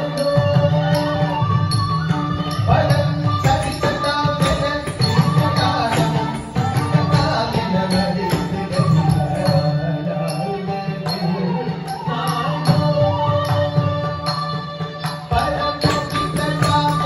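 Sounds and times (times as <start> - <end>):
percussion keeping the beat: 0.0 - 17.0.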